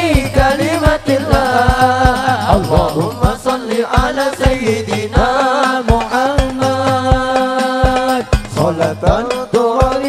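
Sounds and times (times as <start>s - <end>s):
frame drums beating: 0.0s - 10.0s.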